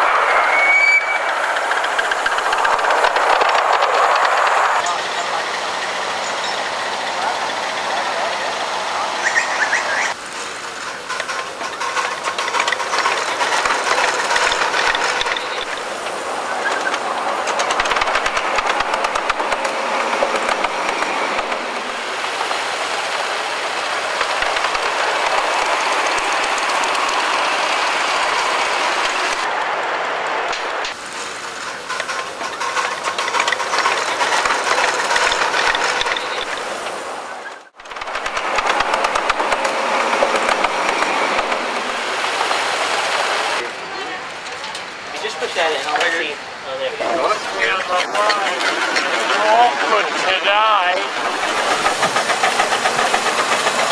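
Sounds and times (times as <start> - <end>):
miniature steam train running: 0.0 - 53.9.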